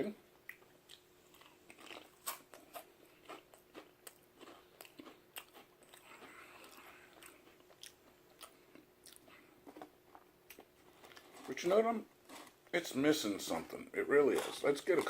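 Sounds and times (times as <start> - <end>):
person chewing crisps: 0.4 - 12.7.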